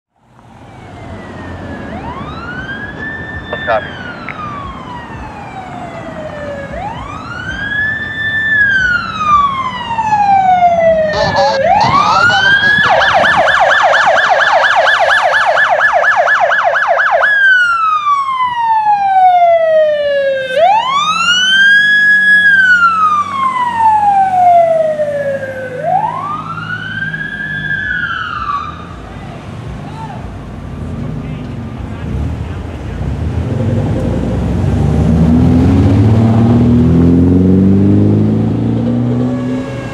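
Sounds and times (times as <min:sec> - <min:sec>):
fire engine siren wailing and yelping: 0:00.4 - 0:30.3, 0:33.1 - 0:36.8, 0:37.4 - 0:39.9.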